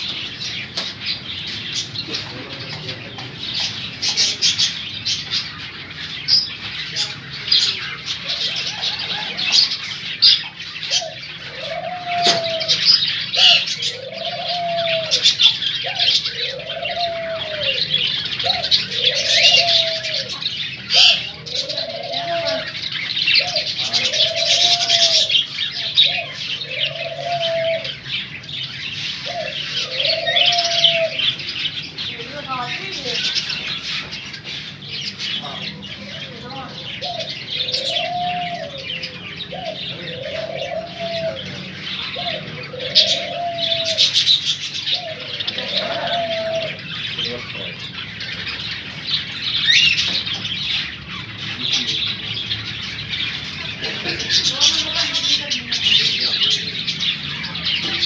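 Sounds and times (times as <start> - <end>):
small birds chirping and chattering: 0.0 - 58.0
low arching bird call: 5.6 - 33.7, 34.7 - 58.0.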